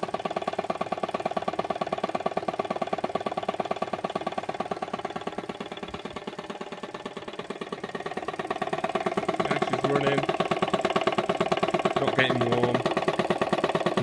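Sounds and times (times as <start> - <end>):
piston air compressor running: 0.0 - 14.0.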